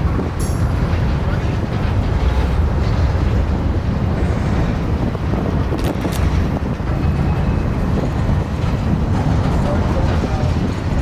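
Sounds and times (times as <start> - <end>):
steady low rumble: 0.0 - 11.0
wind buffeting microphone: 0.0 - 11.0.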